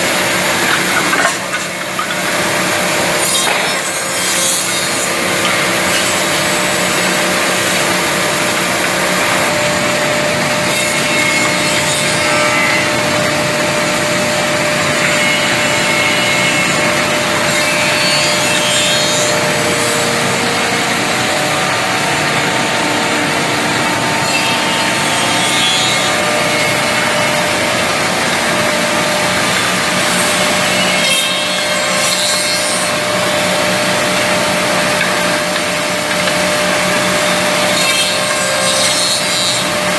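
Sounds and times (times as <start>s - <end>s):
machine whir: 0.0s - 39.9s.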